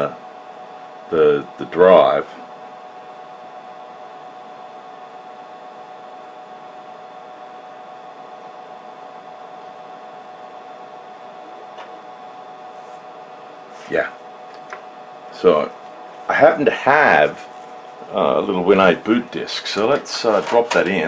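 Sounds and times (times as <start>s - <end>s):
cooling fans humming and whirring: 0.0s - 21.0s.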